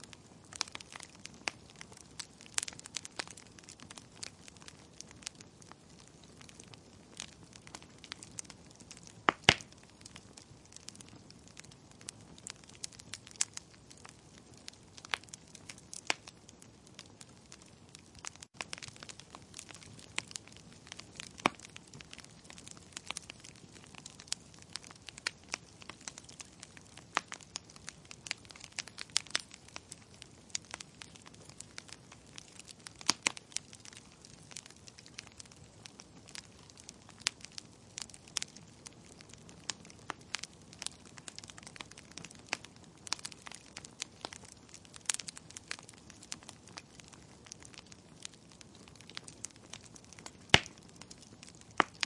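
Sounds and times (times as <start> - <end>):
burning logs snapping and popping: 0.0 - 52.0.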